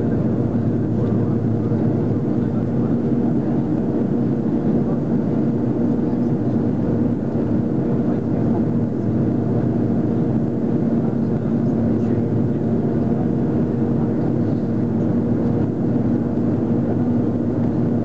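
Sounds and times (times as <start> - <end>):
airplane engines droning: 0.0 - 18.0.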